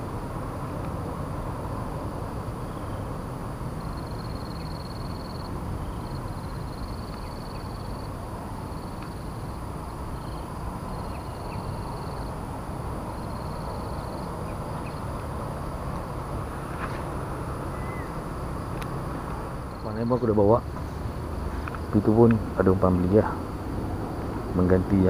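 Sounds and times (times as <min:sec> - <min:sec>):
rumbling outdoor background noise: 0:00.0 - 0:25.0.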